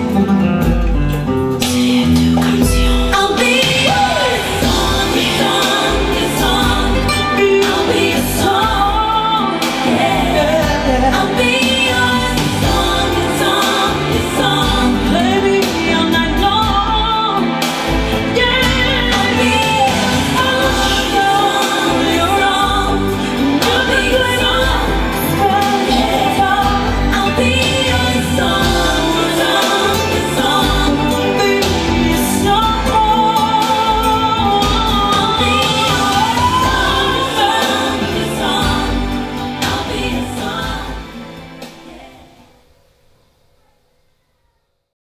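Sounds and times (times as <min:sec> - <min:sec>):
singing over pulsing bass: 0:01.6 - 0:42.6.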